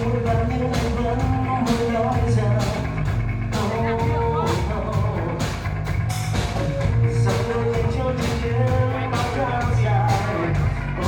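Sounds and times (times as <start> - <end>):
person singing: 0.0 - 5.6, 6.6 - 11.0
rock band playing: 0.0 - 11.0.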